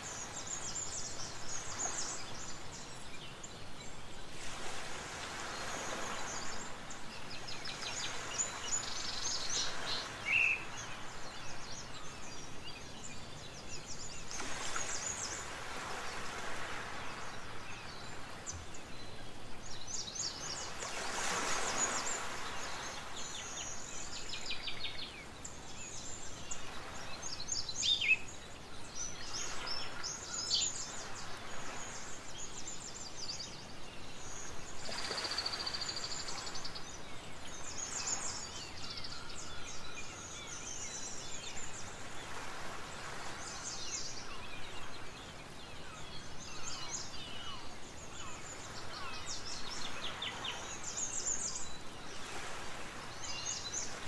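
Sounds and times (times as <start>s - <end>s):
background hiss: 0.0s - 54.0s.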